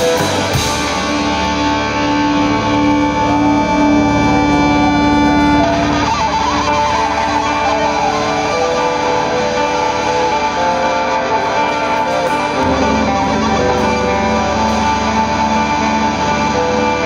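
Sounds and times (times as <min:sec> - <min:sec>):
electric guitar ringing chords: 0:00.0 - 0:17.0
indie rock band playing live: 0:00.0 - 0:17.0.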